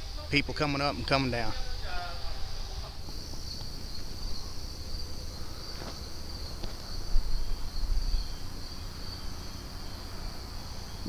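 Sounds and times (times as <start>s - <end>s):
insects buzzing: 0.0s - 11.0s
road traffic rumble: 0.0s - 11.0s.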